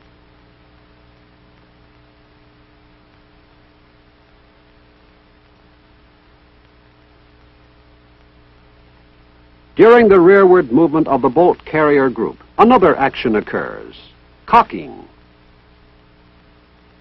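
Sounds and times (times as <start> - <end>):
film soundtrack hiss: 0.0 - 17.0
low electrical hum: 0.0 - 17.0.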